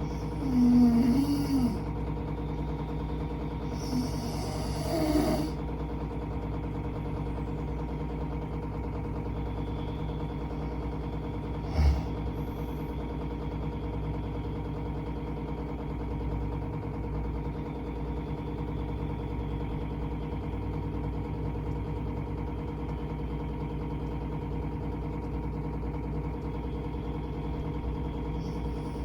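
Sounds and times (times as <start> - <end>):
machine hum with buzz: 0.0 - 29.0.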